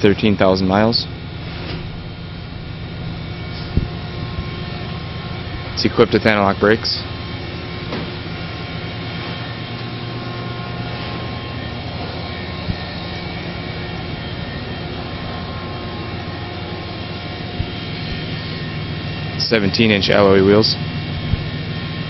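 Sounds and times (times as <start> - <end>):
engine drone with hiss: 0.0 - 22.0.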